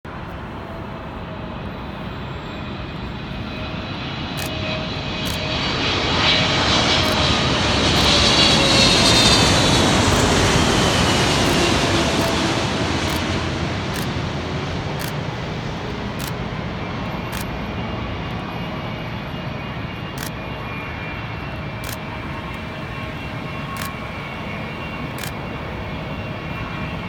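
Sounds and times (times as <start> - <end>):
jet airliner passing by: 0.1 - 27.0.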